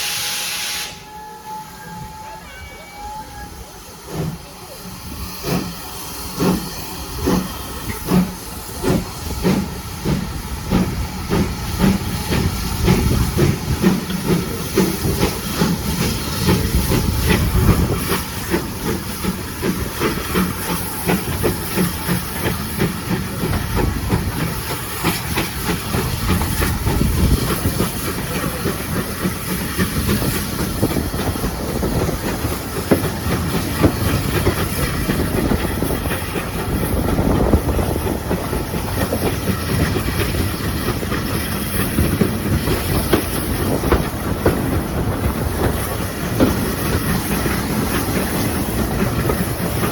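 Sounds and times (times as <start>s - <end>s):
steam hissing: 0.0s - 49.9s
steam locomotive exhaust beats: 0.0s - 49.9s.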